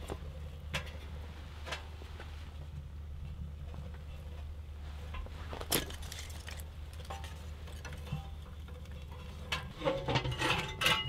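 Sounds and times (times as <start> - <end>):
metallic clicks in a woodstove: 0.0 - 1.9, 3.2 - 11.0.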